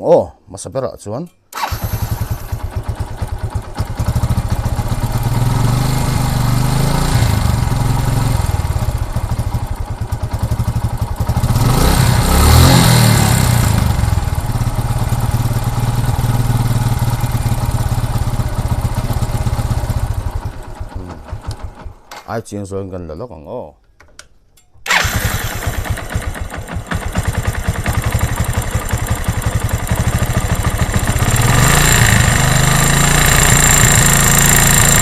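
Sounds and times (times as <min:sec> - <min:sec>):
motorcycle engine idling and revving: 0:01.6 - 0:22.0, 0:24.9 - 0:35.0.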